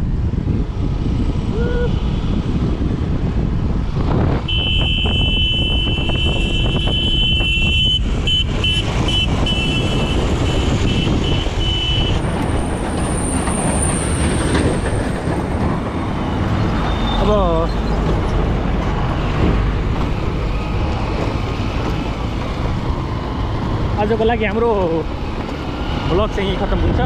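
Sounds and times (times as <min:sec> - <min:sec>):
wind noise: 0:00.0 - 0:27.0.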